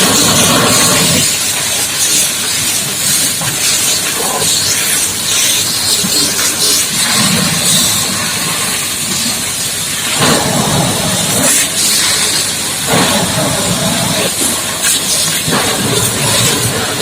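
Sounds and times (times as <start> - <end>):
high-pressure water jet spraying: 0.0 - 17.0.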